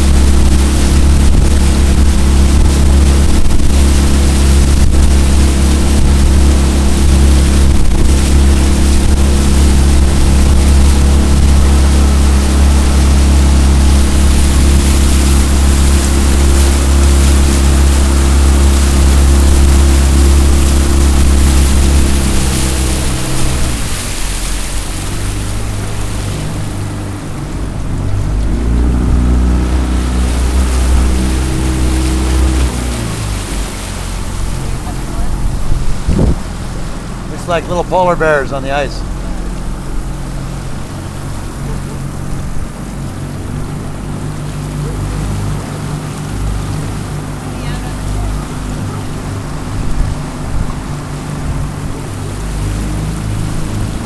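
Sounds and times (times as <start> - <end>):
outboard motor running: 0.0 - 54.0
water rushing past hull: 0.0 - 54.0.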